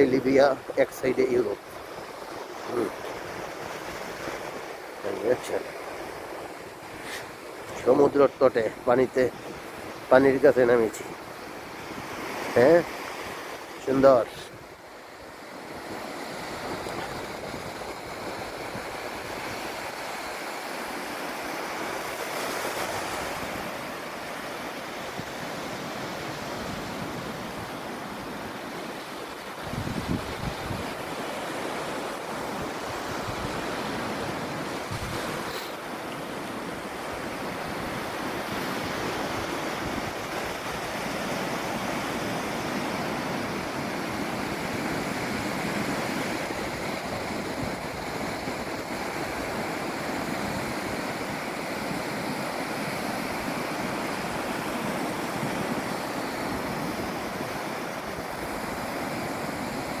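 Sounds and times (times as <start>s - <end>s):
small waves washing on sand: 0.0s - 60.0s.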